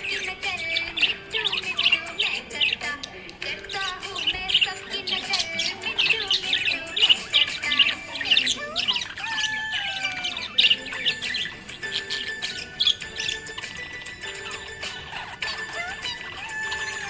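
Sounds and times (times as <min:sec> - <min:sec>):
budgerigar chirping and chattering: 0:00.0 - 0:17.0.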